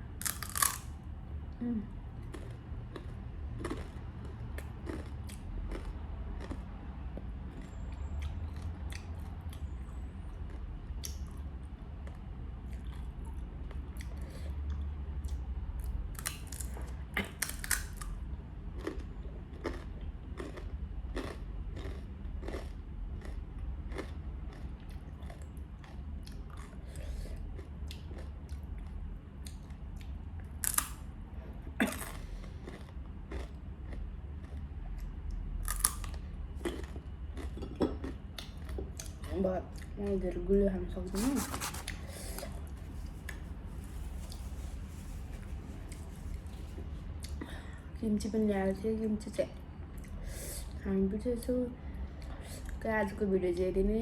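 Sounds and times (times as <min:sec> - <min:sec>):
person chewing crunchy food: 0:00.1 - 0:01.0, 0:02.2 - 0:39.9, 0:41.1 - 0:47.6.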